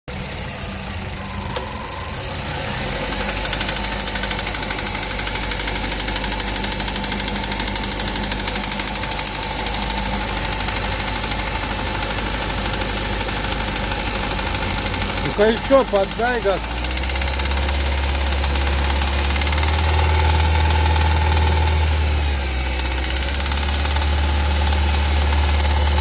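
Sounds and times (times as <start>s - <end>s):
car engine running: 0.1s - 26.0s
fast regular engine knock: 3.0s - 26.0s.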